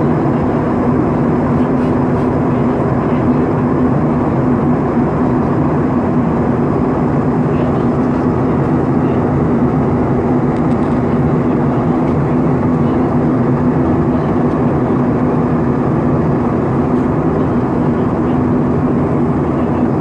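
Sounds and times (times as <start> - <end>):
jet airliner cabin noise: 0.0 - 20.0
low steady hum: 0.0 - 20.0.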